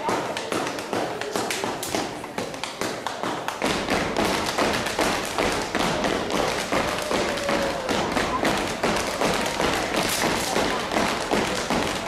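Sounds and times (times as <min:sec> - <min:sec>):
hand claps and body slaps: 0:00.0 - 0:12.0.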